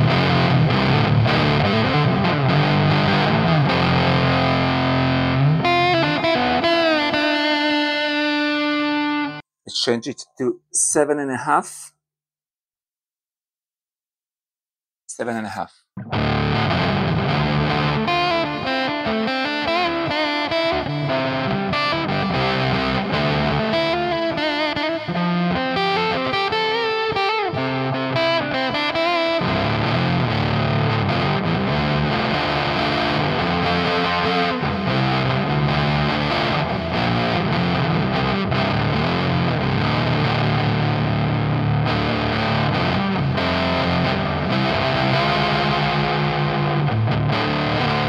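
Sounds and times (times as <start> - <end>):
fuzz electric guitar: 0.0 - 9.4, 16.0 - 48.0.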